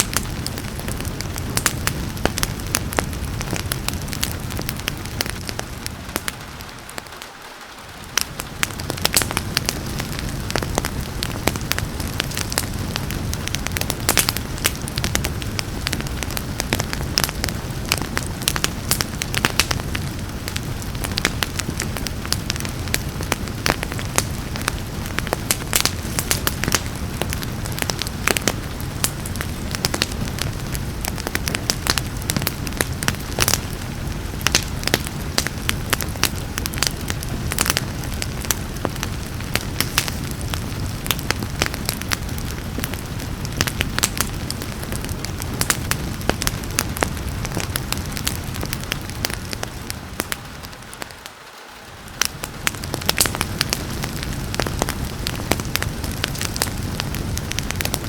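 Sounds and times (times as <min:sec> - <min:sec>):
rain hiss: 0:00.0 - 0:58.0
wood fire crackling: 0:00.0 - 0:58.0.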